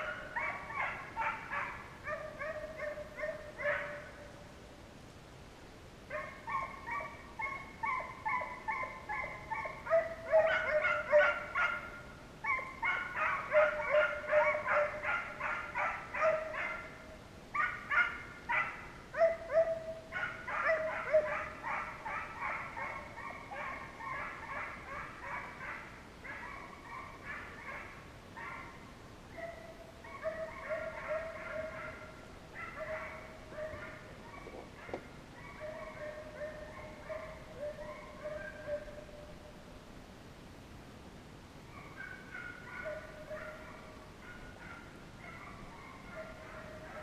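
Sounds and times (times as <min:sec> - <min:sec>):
hounds baying and barking: 0:00.0 - 0:04.4, 0:06.1 - 0:39.4, 0:41.7 - 0:47.0.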